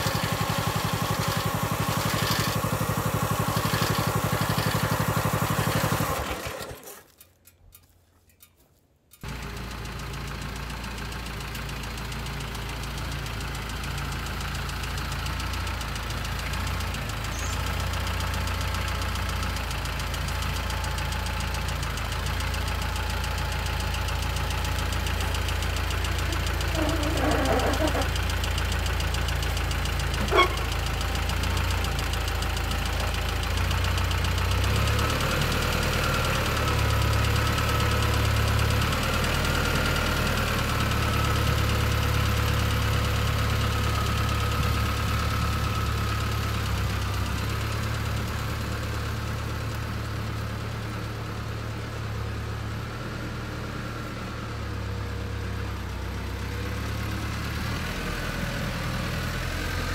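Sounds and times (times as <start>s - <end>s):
tractor engine running: 0.0s - 8.0s, 9.2s - 59.9s.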